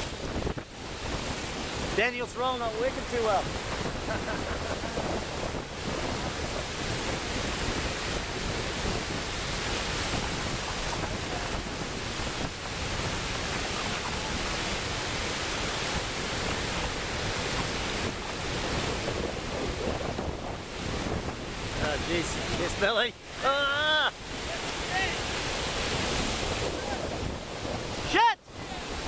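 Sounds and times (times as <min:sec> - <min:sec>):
ocean surf on a beach: 0:00.0 - 0:29.0
wind buffeting microphone: 0:00.0 - 0:29.0.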